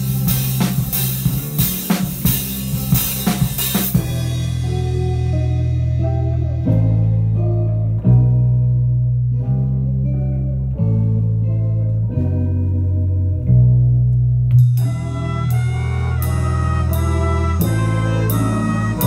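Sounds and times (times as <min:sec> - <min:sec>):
full band playing: 0:00.0 - 0:13.7, 0:14.5 - 0:19.0
bass guitar line: 0:00.0 - 0:19.0
plucked guitar chords: 0:00.0 - 0:19.0.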